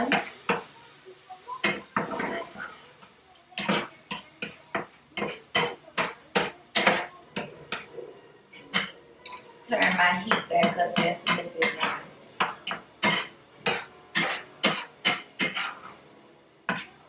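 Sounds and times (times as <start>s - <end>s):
spatula scraping a skillet: 1.5s - 17.0s.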